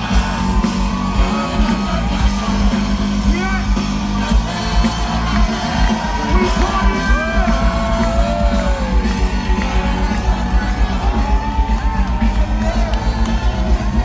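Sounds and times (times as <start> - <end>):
crowd whooping and yelling: 0.0 - 14.0
heavy bass beat: 0.0 - 14.0
live band music: 0.0 - 14.0.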